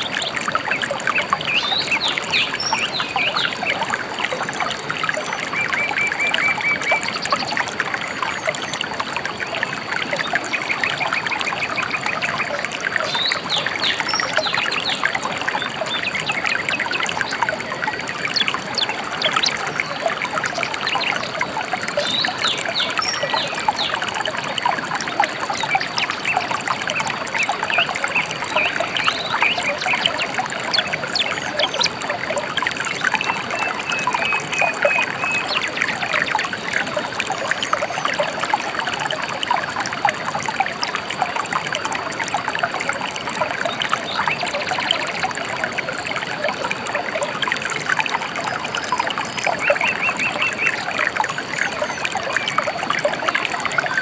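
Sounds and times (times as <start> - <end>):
river trickling and babbling: 0.0 - 54.0.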